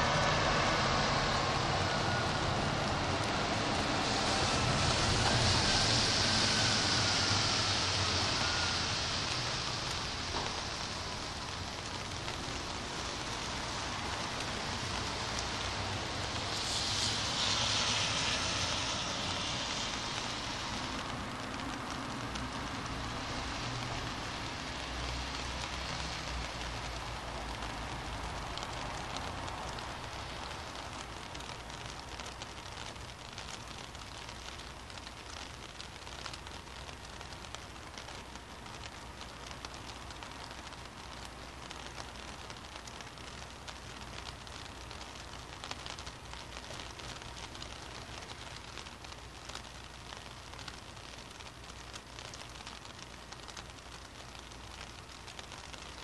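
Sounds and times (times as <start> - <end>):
low traffic rumble: 0.0 - 56.0
rain pattering on street: 0.0 - 56.0
tyres hissing on wet road: 0.0 - 56.0.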